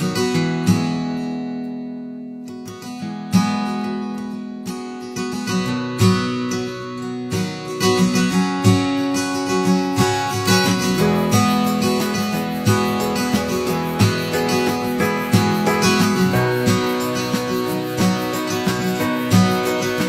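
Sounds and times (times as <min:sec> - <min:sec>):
acoustic guitar strummed chords: 0:00.0 - 0:20.0.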